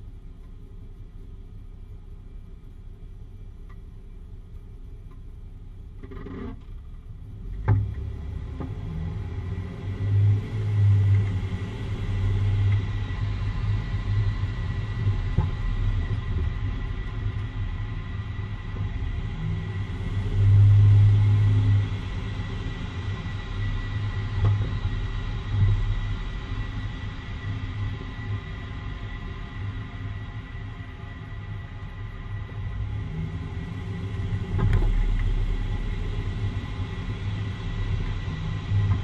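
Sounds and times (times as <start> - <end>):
vehicle road rumble: 0.0 - 39.0.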